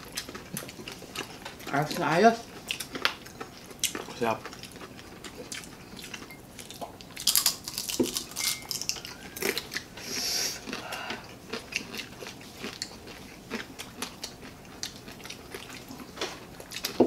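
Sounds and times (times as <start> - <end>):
people chewing crunchy food: 0.0 - 17.0.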